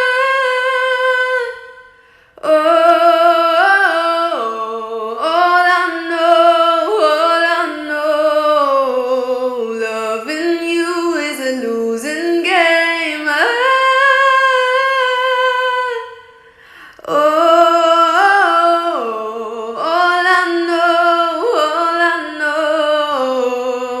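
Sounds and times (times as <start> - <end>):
person singing: 0.0 - 24.0.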